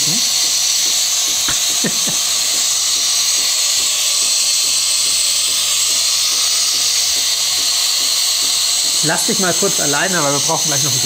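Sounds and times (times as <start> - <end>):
steam frothing milk hiss: 0.0 - 11.0.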